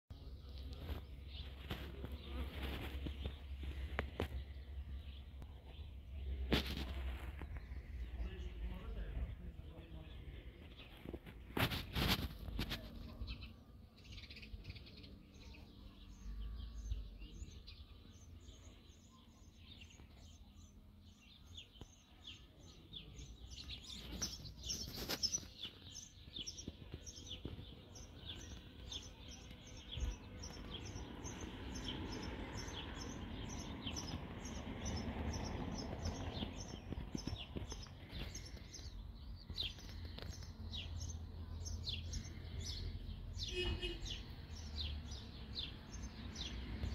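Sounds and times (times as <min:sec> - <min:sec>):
small birds chirping: 0:00.1 - 0:46.9.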